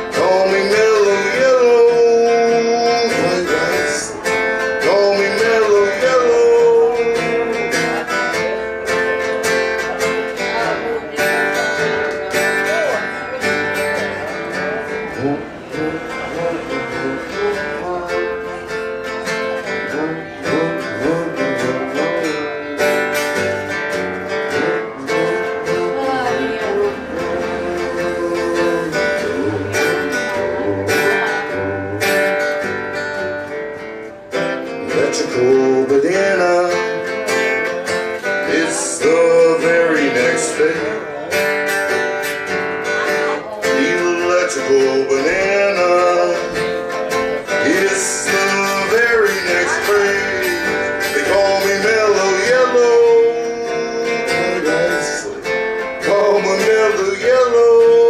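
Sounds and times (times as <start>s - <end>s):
strummed guitar: 0.0s - 58.0s.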